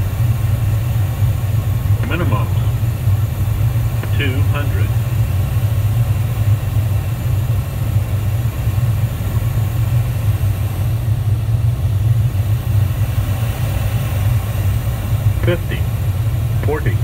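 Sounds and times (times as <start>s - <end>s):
jet cockpit rumble: 0.0s - 17.0s.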